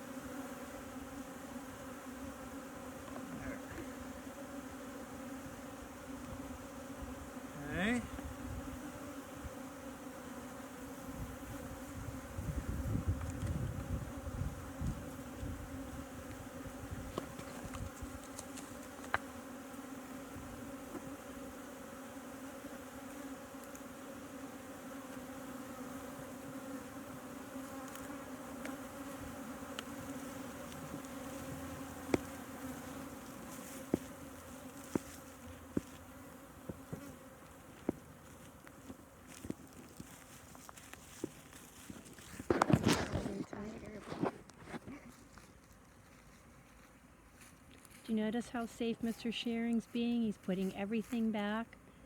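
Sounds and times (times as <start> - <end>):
honeybees buzzing: 0.0 - 44.8, 47.4 - 52.0.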